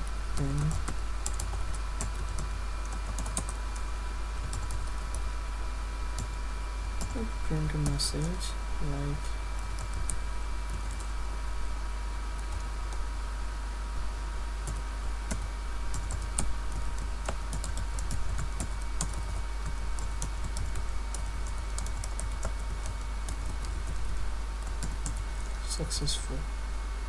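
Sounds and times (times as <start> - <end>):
faint steady whine: 0.0 - 27.0
steady low hum: 0.0 - 27.0.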